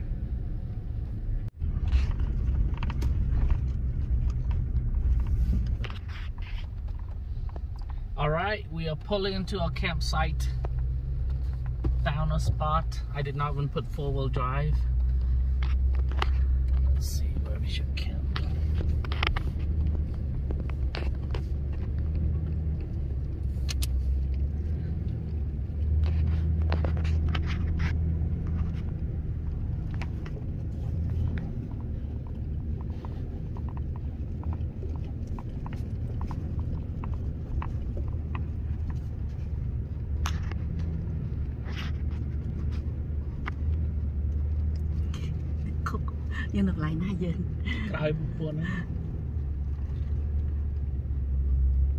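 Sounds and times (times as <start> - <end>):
truck engine and tyres rumbling: 0.0 - 51.9.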